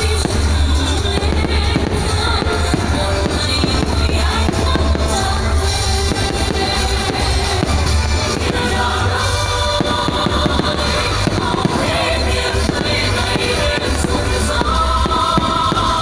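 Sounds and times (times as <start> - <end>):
fireworks bursting and crackling: 0.0 - 16.0
loud music with heavy bass: 0.0 - 16.0.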